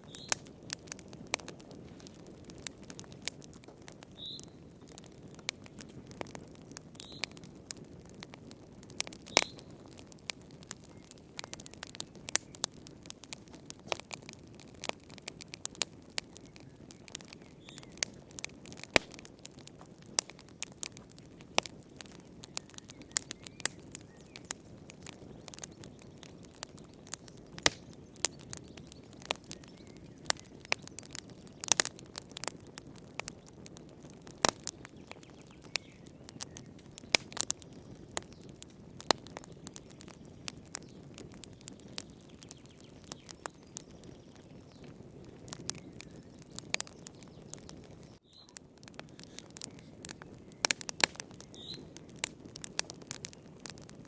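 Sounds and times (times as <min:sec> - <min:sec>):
rush of flames: 0:00.0 - 0:54.0
sharp pops and snaps: 0:00.0 - 0:54.0
wood fire crackling: 0:00.0 - 0:54.0.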